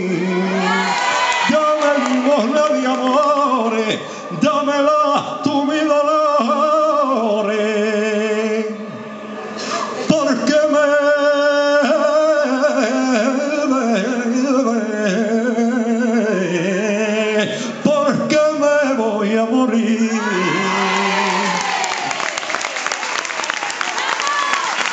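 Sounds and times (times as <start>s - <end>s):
man singing with vibrato: 0.0s - 21.9s.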